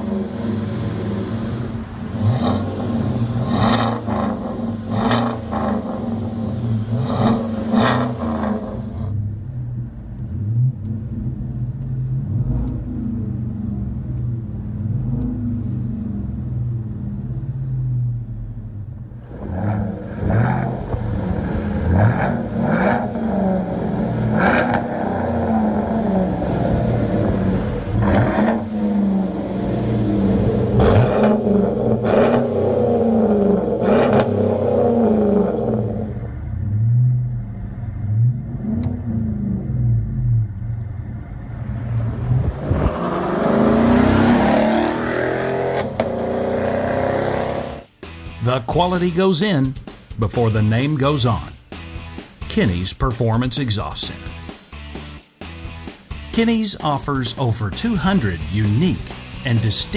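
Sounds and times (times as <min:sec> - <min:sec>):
pickup engine revving: 0:00.0 - 0:55.0, 0:55.7 - 0:59.9.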